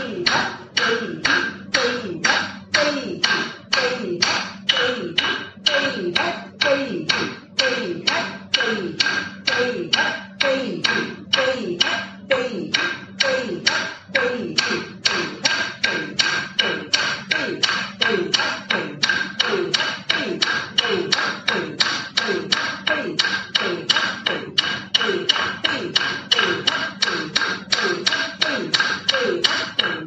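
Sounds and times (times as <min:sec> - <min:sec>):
rhythmic tapping: 0:00.0 - 0:30.0.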